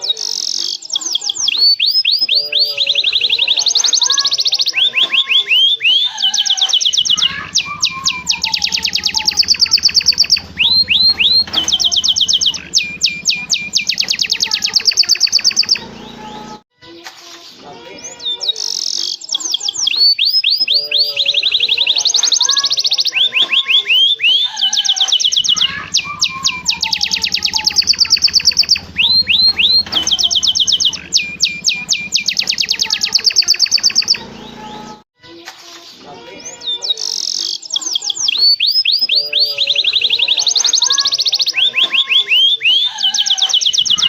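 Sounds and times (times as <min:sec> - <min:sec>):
canary singing trills: 0:00.0 - 0:16.6, 0:17.7 - 0:35.0, 0:36.1 - 0:44.0.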